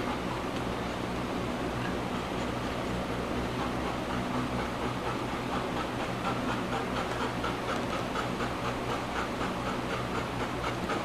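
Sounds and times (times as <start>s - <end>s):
steady low hum: 0.0s - 11.0s
dog panting rapidly: 2.2s - 11.0s.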